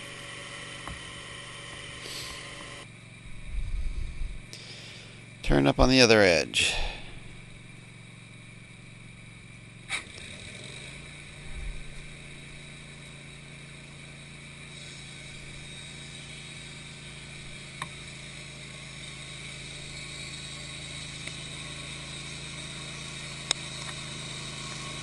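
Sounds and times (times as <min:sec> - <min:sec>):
sawmill running: 0:00.0 - 0:25.0.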